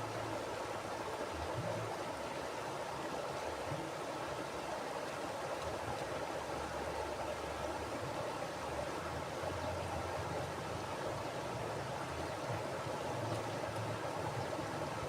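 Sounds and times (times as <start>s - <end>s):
river flowing over rocks: 0.0s - 15.0s.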